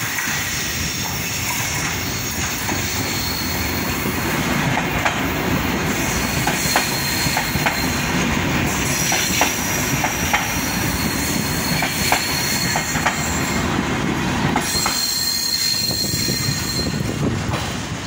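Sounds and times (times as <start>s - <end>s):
high train wheel squeal: 0.0s - 18.0s
train wheels clicking over rail joints: 0.0s - 18.0s.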